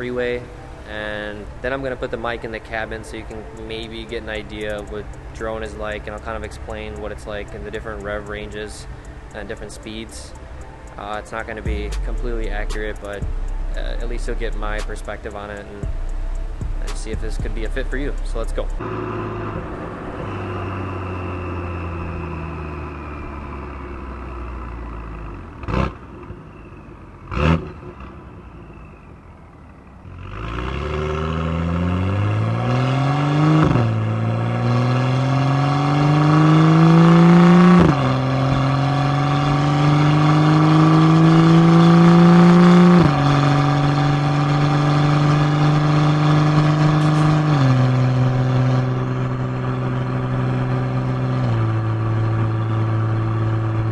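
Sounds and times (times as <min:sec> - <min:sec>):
car exhaust engine note: 0:00.0 - 0:53.9.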